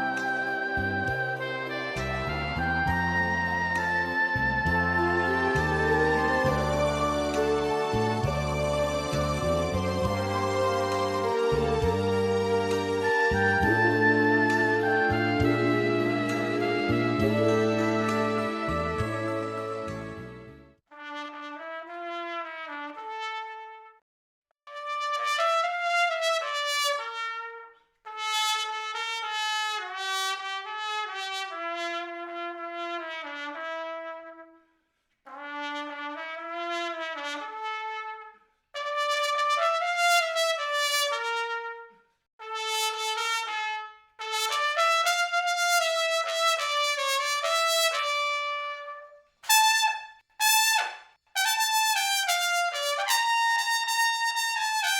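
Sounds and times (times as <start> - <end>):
solo trumpet melody: 0.0 - 24.0, 24.7 - 34.7, 35.3 - 54.9.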